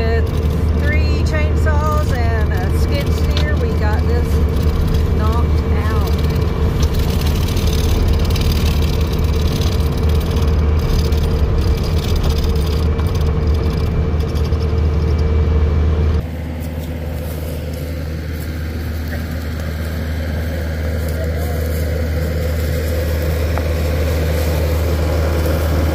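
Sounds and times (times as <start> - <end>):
machine engine running: 0.0 - 25.9.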